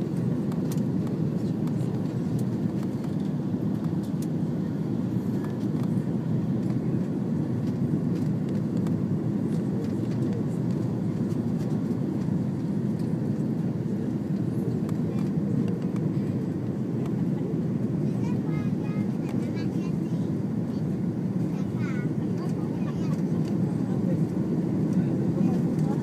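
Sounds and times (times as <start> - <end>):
aircraft cabin engine roar: 0.0 - 26.0.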